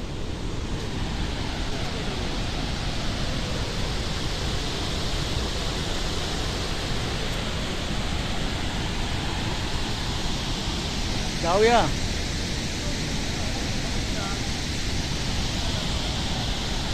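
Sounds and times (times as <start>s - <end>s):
rush of falling water: 0.0s - 16.9s.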